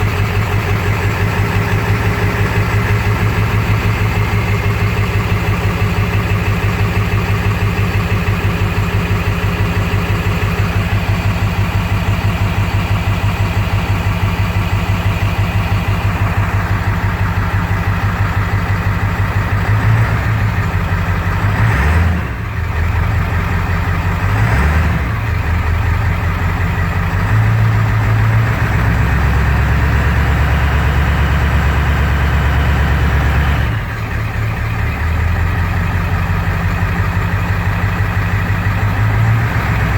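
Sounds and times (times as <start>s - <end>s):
engine rough idle: 0.0s - 39.9s.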